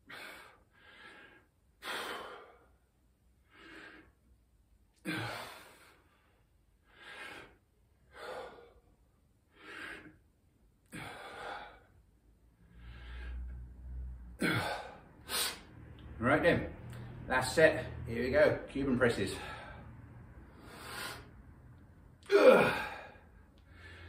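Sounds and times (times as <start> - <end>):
man breathing hard: 0.0 - 4.4, 5.0 - 15.8, 19.3 - 24.0.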